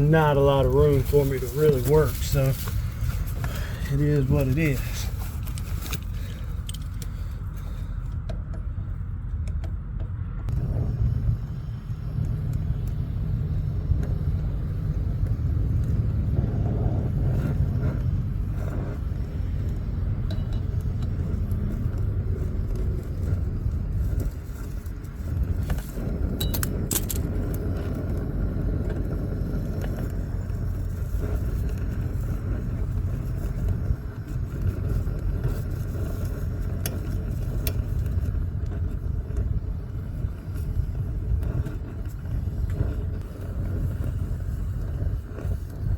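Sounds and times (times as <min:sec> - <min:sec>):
torch flame: 0:00.0 - 0:45.9.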